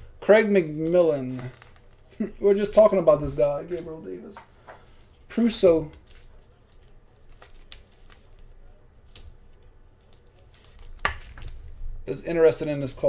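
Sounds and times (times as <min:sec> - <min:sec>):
trading card packaging rustling: 0:00.7 - 0:11.8.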